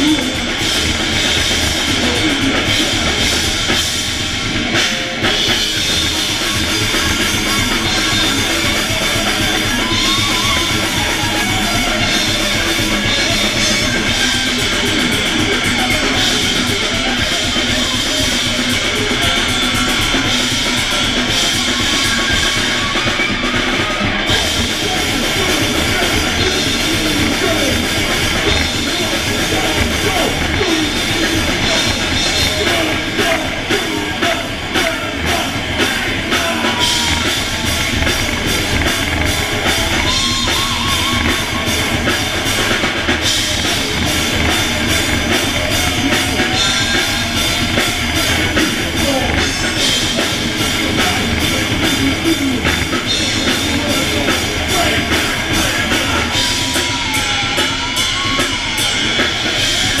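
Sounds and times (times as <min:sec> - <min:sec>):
thrash metal band playing live: 0:00.0 - 1:00.0.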